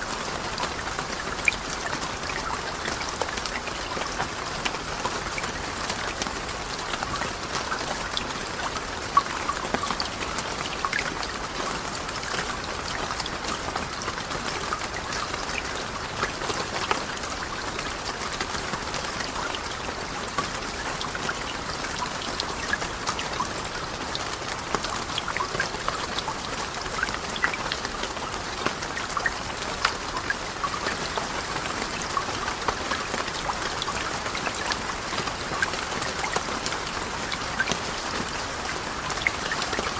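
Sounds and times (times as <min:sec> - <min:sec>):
rain drops ticking on a surface: 0:00.0 - 0:39.9.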